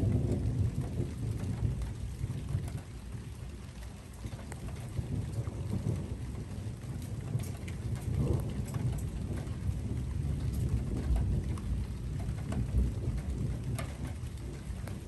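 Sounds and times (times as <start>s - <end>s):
raindrops ticking: 0.0s - 15.0s
thunder rumbling: 0.0s - 15.0s.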